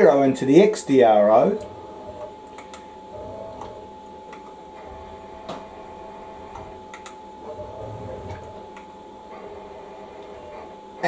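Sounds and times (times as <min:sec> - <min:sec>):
lathe drive whine and hum: 0:00.0 - 0:11.0.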